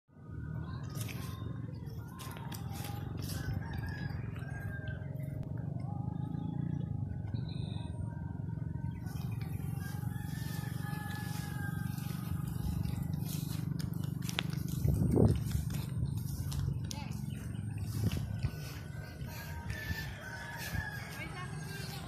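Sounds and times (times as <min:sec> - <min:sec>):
steady low rumble: 0:00.1 - 0:22.0
roosters crowing: 0:01.0 - 0:07.1, 0:08.5 - 0:22.0.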